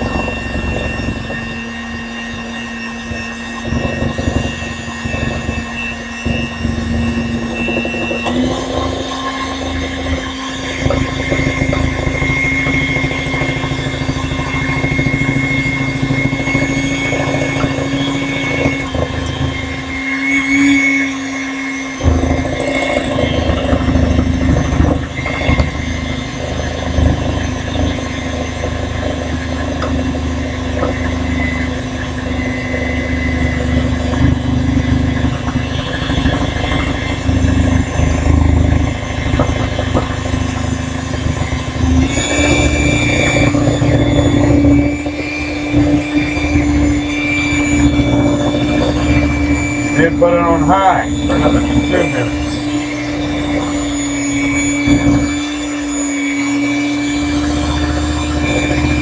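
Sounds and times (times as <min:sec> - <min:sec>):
electric hand mixer running: 0:00.0 - 0:59.0.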